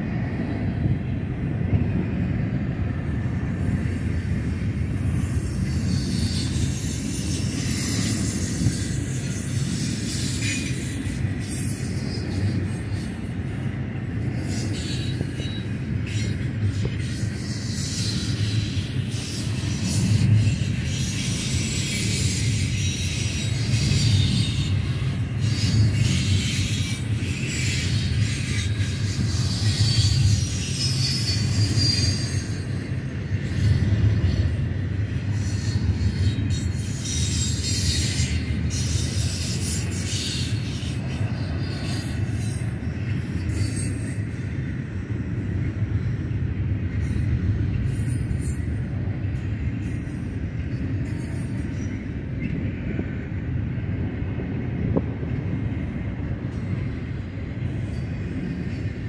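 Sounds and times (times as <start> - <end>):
freight train rumbling past: 0.0 - 59.0
train wheels squealing: 1.6 - 59.0.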